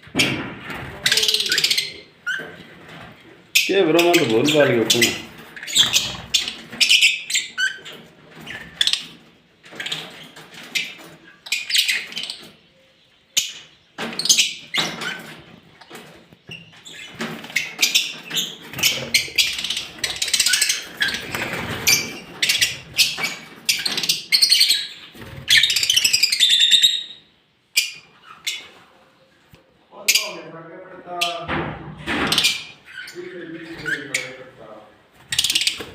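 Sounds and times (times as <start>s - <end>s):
lovebirds chattering: 0.0s - 31.5s, 32.3s - 35.9s.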